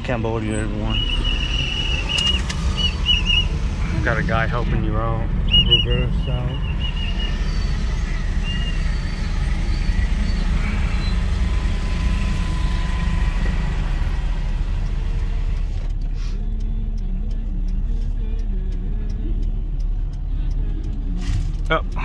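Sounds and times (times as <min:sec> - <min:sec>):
car engine rumble: 0:00.0 - 0:22.0
street traffic: 0:00.0 - 0:22.0.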